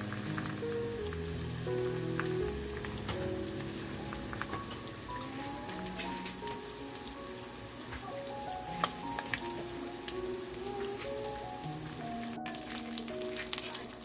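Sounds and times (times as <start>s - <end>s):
crackles and pops: 0.0s - 14.0s
eggs sizzling in oil: 0.0s - 14.0s
quiet background music: 0.0s - 14.0s.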